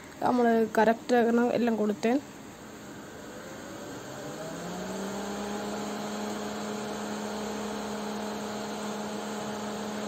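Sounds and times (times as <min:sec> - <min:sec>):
cooling fans humming: 0:00.0 - 0:10.0.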